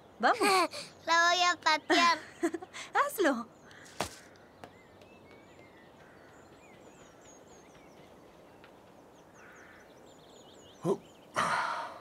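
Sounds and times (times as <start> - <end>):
birds chirping: 0.0 - 12.0
low steady background hiss: 0.0 - 12.0.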